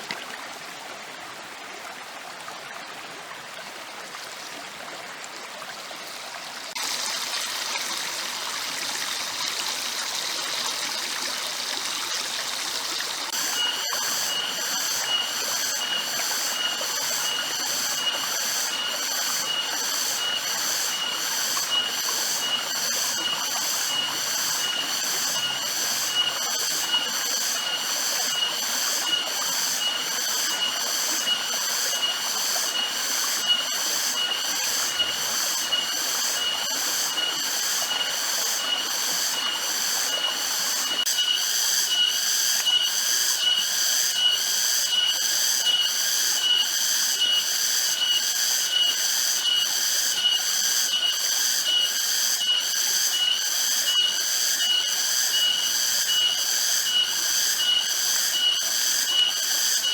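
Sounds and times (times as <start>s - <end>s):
cicadas shrilling: 6.1s - 59.9s.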